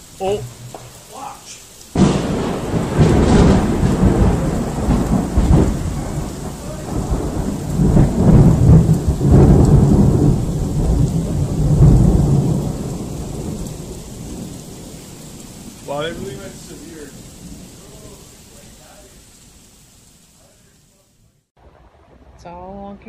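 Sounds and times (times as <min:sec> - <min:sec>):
loud rolling thunder: 0:00.0 - 0:19.7
steady rain: 0:00.0 - 0:23.0.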